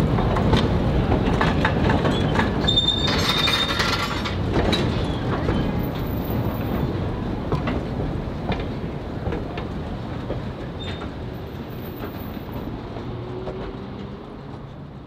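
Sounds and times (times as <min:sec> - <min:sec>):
rail clicks and clanks: 0:00.0 - 0:15.0
train wheels rumbling on rail: 0:00.0 - 0:15.0.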